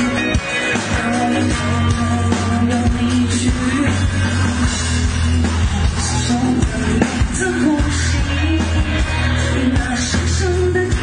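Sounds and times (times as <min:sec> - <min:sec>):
live rock band playing: 0:00.0 - 0:11.0
person singing: 0:00.0 - 0:11.0.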